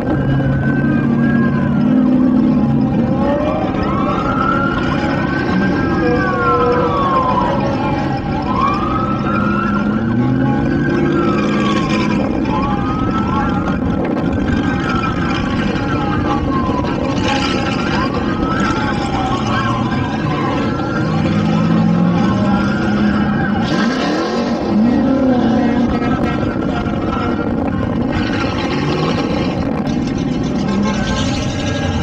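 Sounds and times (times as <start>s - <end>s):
sirens wailing: 0.0s - 32.0s
vehicle engines running: 0.0s - 32.0s.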